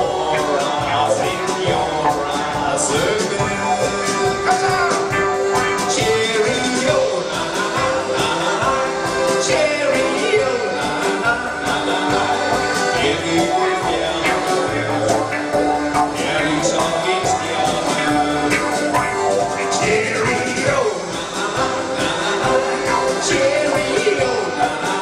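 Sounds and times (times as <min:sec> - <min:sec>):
accordion: 0:00.0 - 0:25.0
drum beat: 0:00.0 - 0:25.0
electric guitar: 0:00.0 - 0:25.0.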